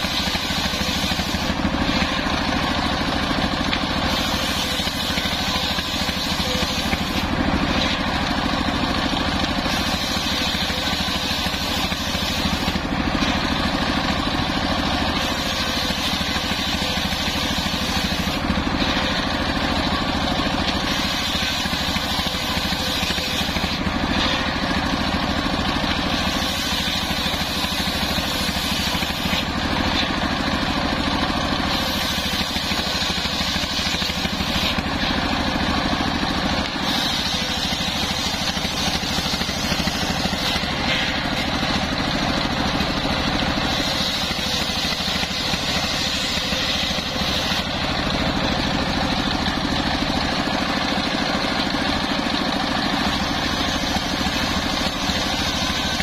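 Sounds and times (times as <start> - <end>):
circular saw cutting wood: 0.0 - 56.0
diesel engine running: 0.0 - 56.0.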